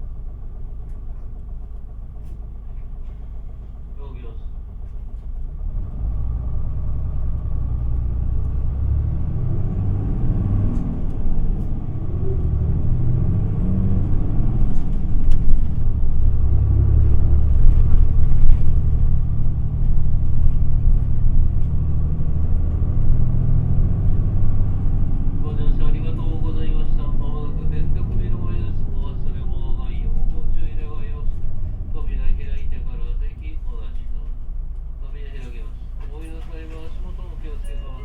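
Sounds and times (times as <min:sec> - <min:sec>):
bus diesel engine accelerating: 0:00.0 - 0:38.0.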